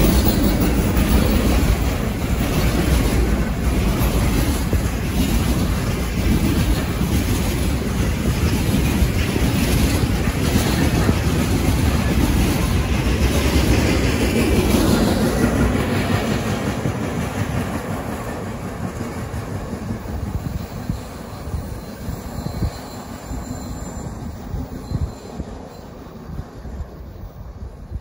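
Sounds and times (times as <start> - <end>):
train wheels rolling: 0.0 - 28.0.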